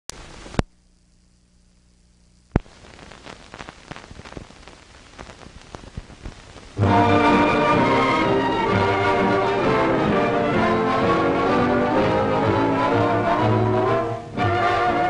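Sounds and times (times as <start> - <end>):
film soundtrack crackle and pops: 0.0 - 15.0
faint hum: 0.1 - 15.0.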